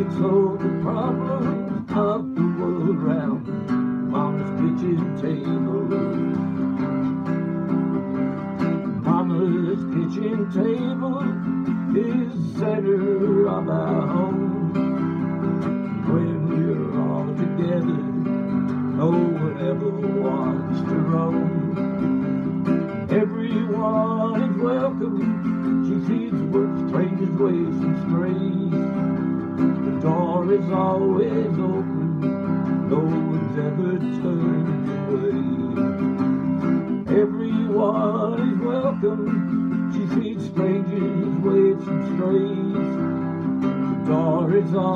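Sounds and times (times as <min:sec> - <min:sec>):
acoustic guitar strummed: 0:00.0 - 0:44.9.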